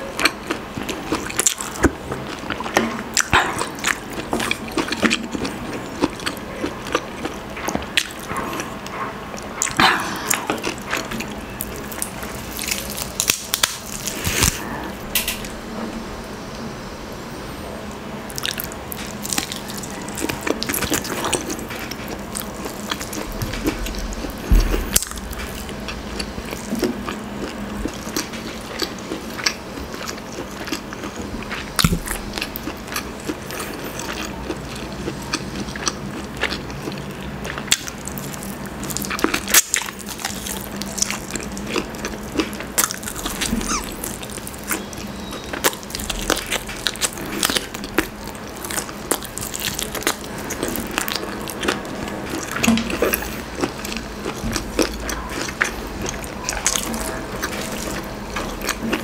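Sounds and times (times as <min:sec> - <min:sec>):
person chewing crunchy meat: 0:00.0 - 0:15.6, 0:18.2 - 0:59.0.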